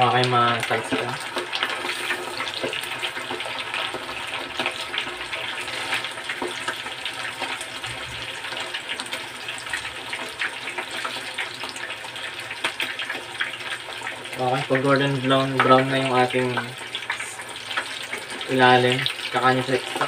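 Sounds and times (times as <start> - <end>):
oil sizzling with crackling pops: 0.0 - 20.0.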